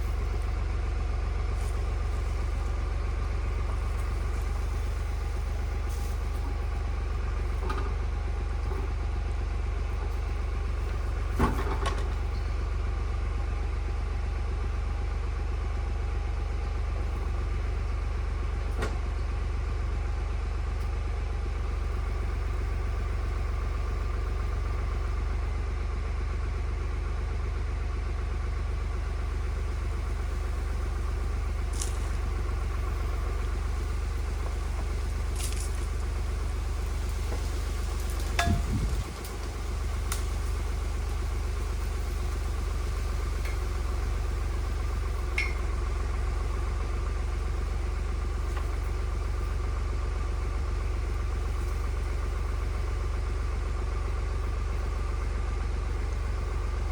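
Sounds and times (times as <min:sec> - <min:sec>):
tractor engine droning: 0:00.0 - 0:56.9.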